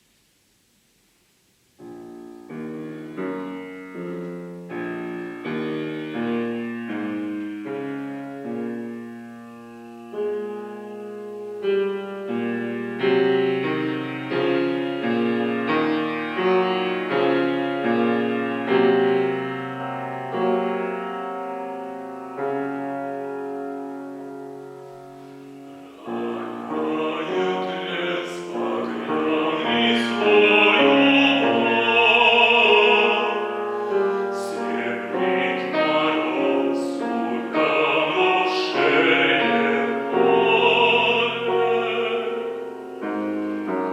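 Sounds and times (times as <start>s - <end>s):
piano playing slow chords: 1.7s - 43.9s.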